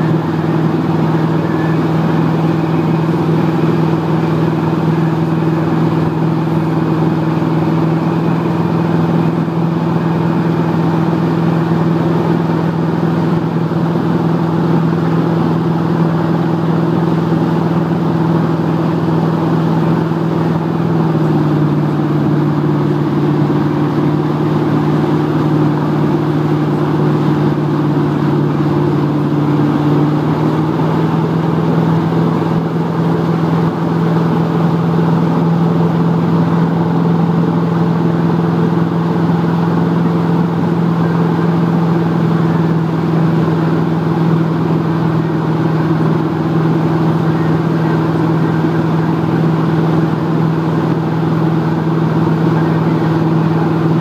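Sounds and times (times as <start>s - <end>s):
churning wake: 0.0s - 54.0s
motorboat engine running: 0.0s - 54.0s
wind: 0.0s - 54.0s.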